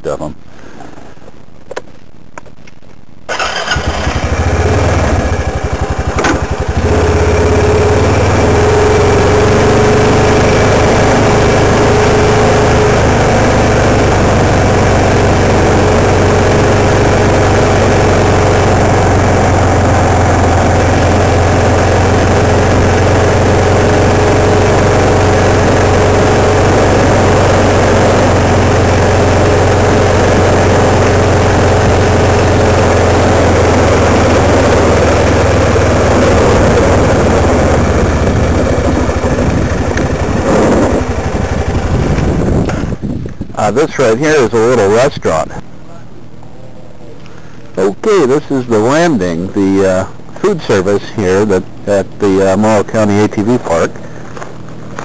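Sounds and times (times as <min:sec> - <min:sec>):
quad engine drone: 0:03.3 - 0:55.0.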